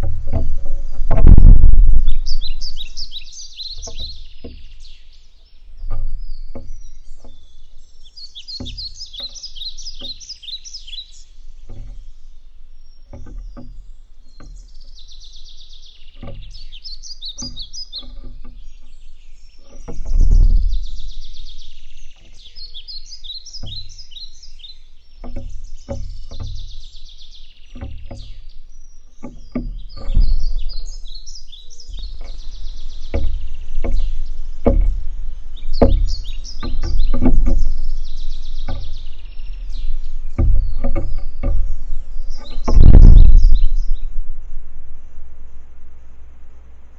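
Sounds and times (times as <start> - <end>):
songbird twittering: 0.0 - 46.9.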